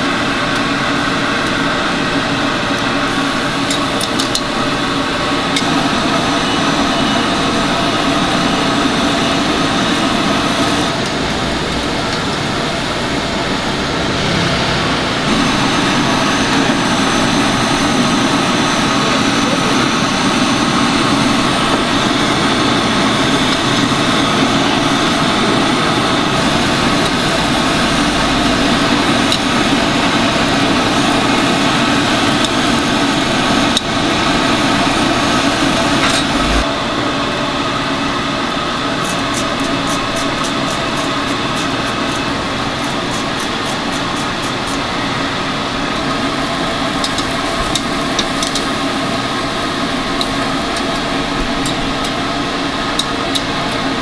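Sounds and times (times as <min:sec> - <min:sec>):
machinery whirring hum: 0:00.0 - 0:54.0.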